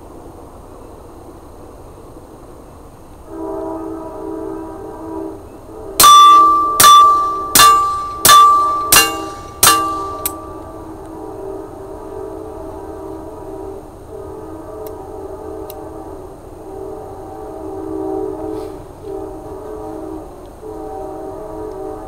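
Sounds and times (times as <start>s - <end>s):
steady pitched drone: 3.3s - 22.0s.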